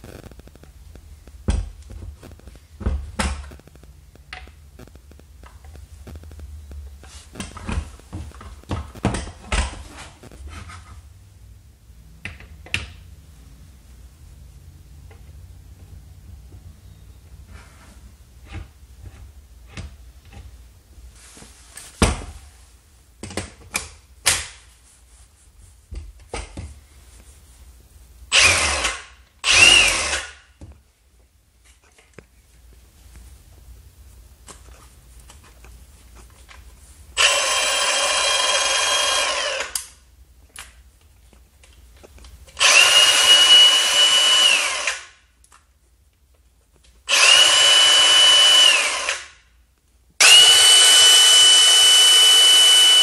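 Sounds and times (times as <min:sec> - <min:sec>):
low steady hum: 0:00.0 - 0:47.1.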